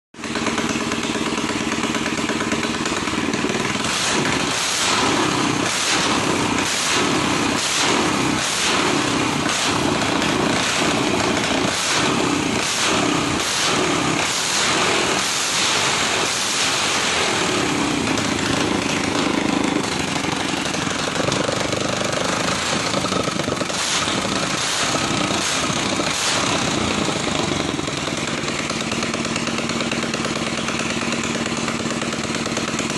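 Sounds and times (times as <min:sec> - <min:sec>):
racing engine revving: 0:00.2 - 0:32.9.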